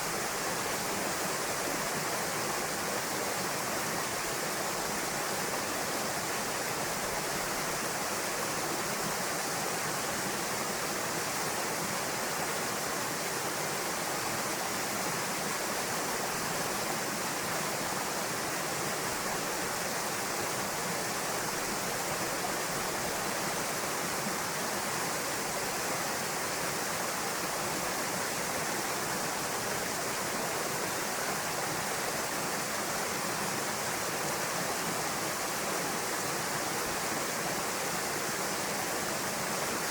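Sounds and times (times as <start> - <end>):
waterfall pouring into a pool: 0.0 - 39.9.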